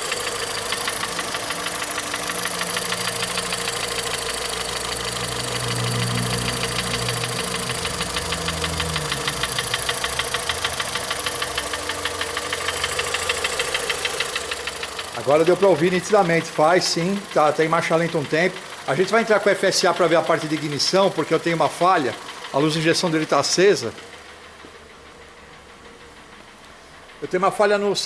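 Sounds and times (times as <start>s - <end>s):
car engine idling: 0.0s - 28.0s
rapid ticking from engine: 0.0s - 28.0s.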